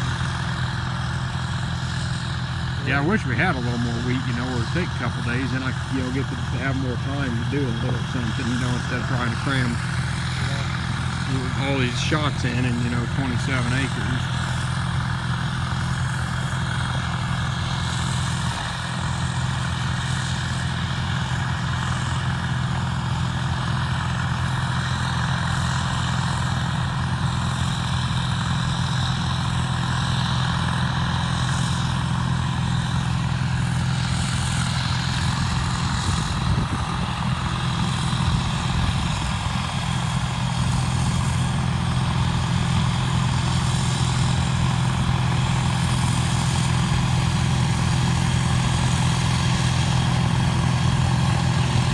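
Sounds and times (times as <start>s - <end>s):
combine harvester engine and threshing: 0.0s - 51.9s.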